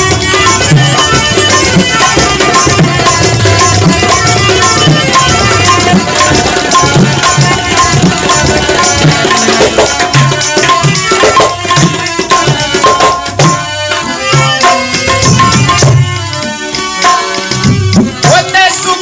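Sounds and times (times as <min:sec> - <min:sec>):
held melody line: 0:00.0 - 0:19.0
tabla rhythm: 0:00.0 - 0:19.0.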